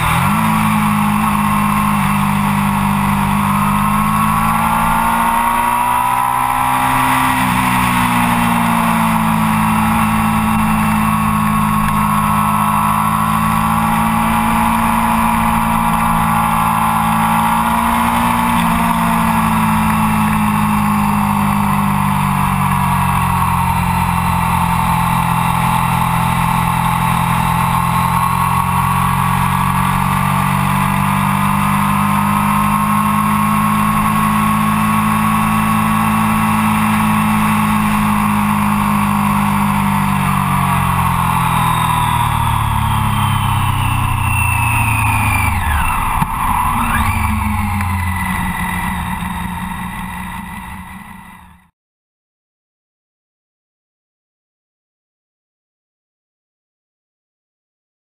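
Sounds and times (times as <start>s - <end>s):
motorcycle engine at high revs: 0.0s - 51.7s.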